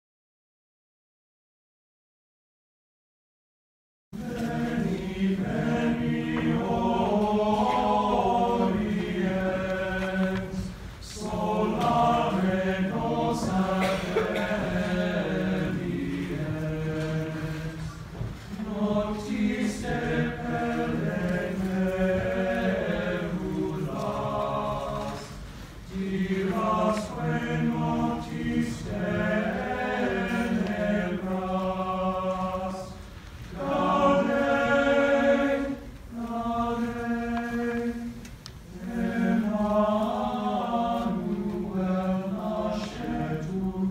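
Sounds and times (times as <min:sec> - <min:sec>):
choir singing held chords: 0:04.2 - 0:43.9.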